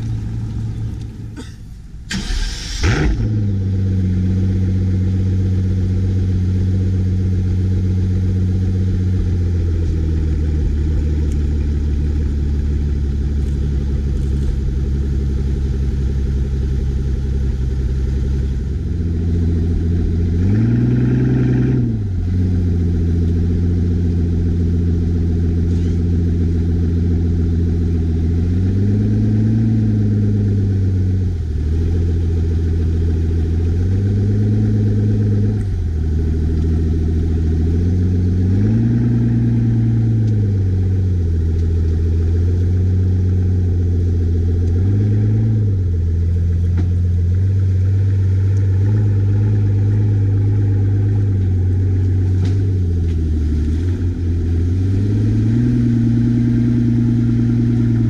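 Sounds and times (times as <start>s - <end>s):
car engine idling: 0.0s - 58.0s
engine throttle blips: 0.0s - 58.0s.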